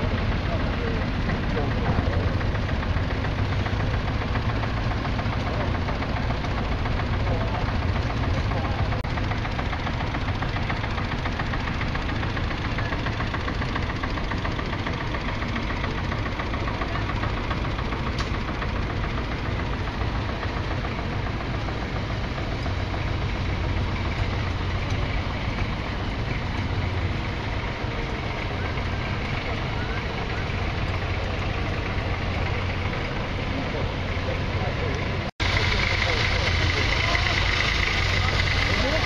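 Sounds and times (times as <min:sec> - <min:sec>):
old tractor engine chugging: 0:00.0 - 0:39.0.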